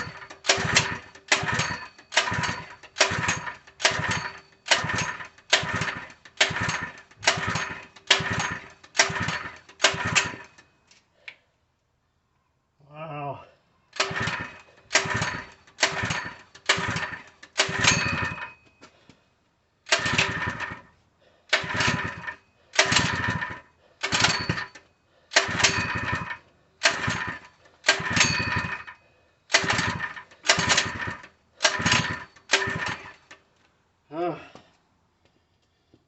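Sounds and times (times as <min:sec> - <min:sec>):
engine cranking on recoil starter: 0:00.0 - 0:10.7, 0:14.0 - 0:18.8, 0:19.8 - 0:33.5.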